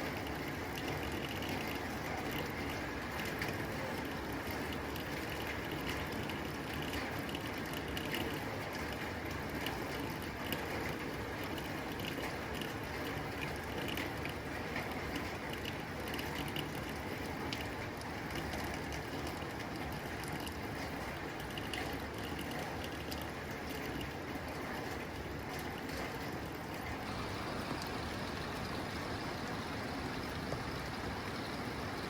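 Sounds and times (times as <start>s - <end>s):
rain on a tin roof: 0.0s - 32.0s.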